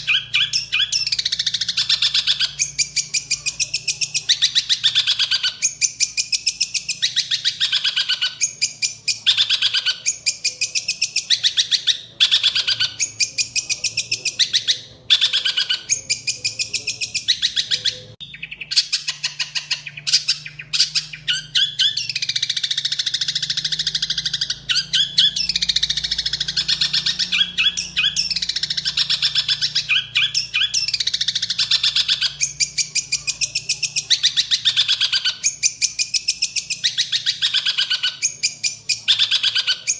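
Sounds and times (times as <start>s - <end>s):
bird harsh chattering song: 0.0s - 39.9s.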